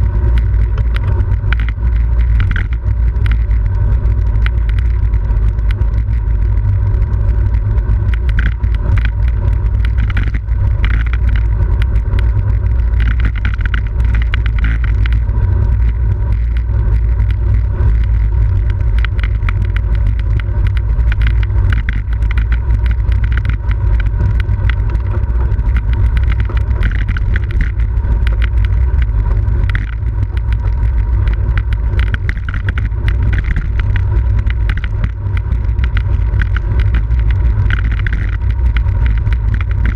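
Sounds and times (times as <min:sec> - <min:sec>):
road and tyre noise: 0:00.0 - 0:39.9
small crackles and rattles: 0:00.0 - 0:39.9.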